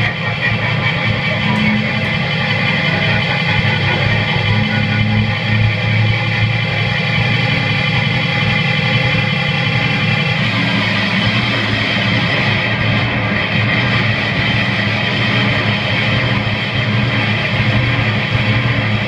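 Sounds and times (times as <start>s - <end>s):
distorted noise music drone: 0.0s - 19.0s.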